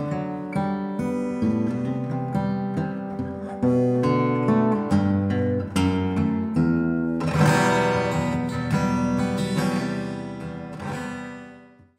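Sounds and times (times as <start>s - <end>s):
acoustic guitar plucked notes: 0.0s - 11.9s.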